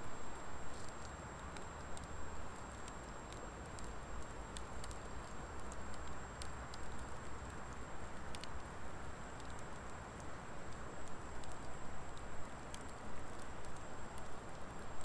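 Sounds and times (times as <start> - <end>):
wood fire crackling and popping: 0.1 - 15.0.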